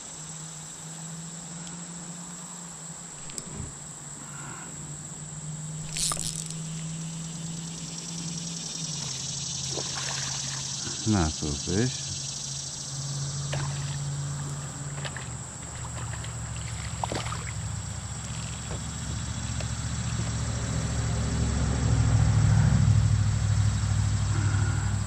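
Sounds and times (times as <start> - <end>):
tractor engine drone: 0.0 - 25.0.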